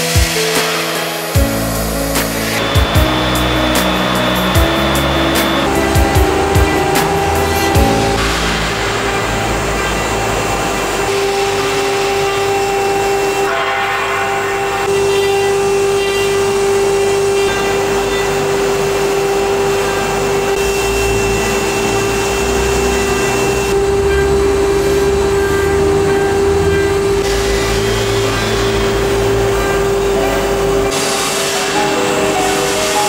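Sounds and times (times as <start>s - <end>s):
wood router spindle whining: 0.0s - 33.0s.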